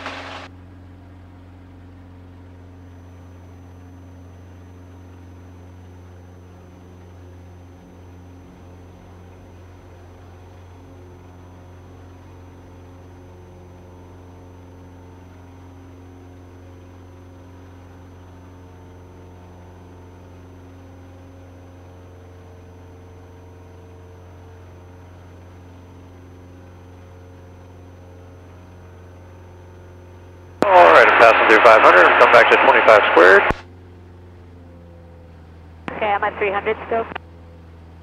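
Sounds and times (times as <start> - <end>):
light airplane engine drone: 0.0 - 38.0.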